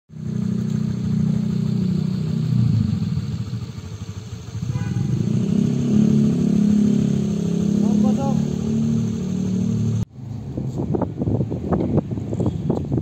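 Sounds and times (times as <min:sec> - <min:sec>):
vehicle engine idling: 0:00.1 - 0:10.9.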